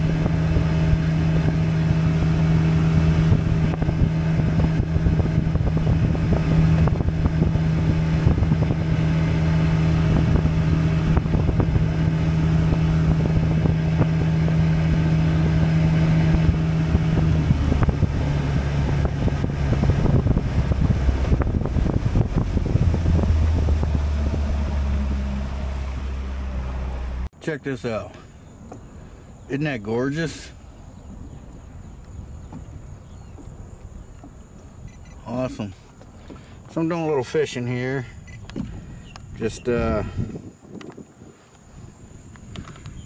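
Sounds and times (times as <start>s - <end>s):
wind buffeting microphone: 0.0s - 27.3s, 30.6s - 43.0s
outboard motor running: 0.0s - 43.0s.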